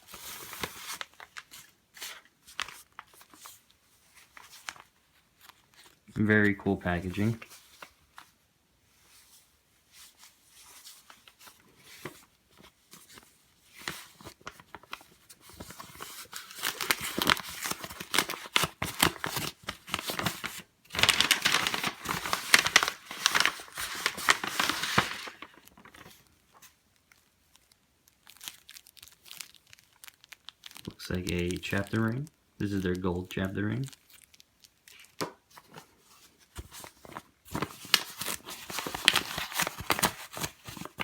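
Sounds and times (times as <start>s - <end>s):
packaging rustling and tearing: 0.0s - 6.0s, 10.0s - 32.9s, 33.6s - 41.0s.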